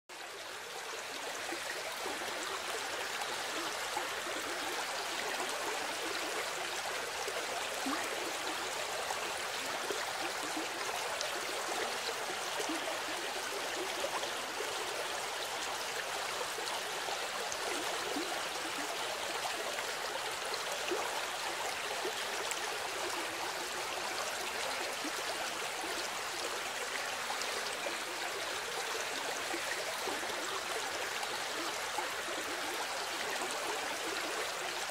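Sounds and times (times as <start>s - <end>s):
flowing water rushing: 0.1s - 34.9s.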